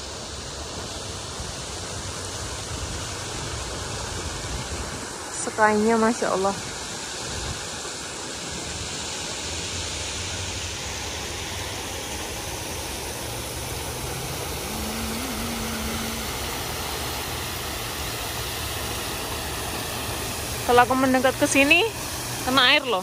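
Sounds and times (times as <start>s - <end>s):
fountain water spraying: 0.0s - 23.0s.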